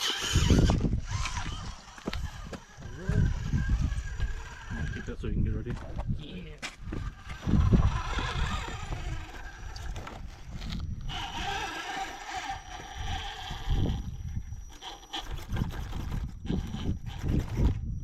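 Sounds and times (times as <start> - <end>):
high steady whirring: 0.0 - 18.0
wind buffeting microphone: 0.0 - 18.0.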